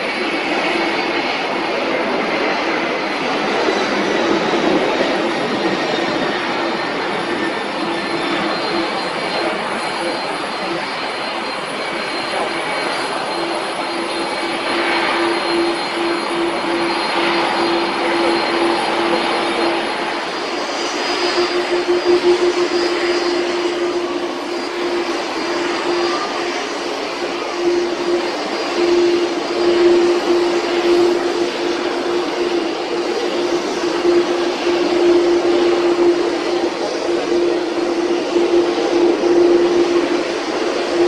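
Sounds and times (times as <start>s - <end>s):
jet engines droning: 0.0s - 41.0s.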